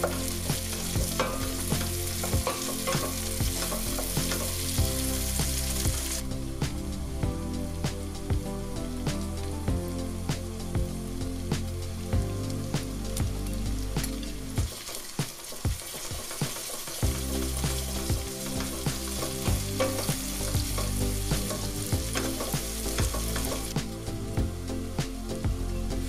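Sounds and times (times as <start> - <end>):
sausage and onions sizzling: 0.0 - 26.0.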